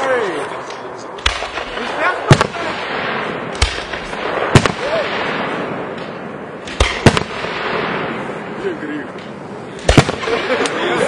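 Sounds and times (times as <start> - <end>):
continuous hiss: 0.0 - 11.0
fireworks bangs: 0.6 - 11.0.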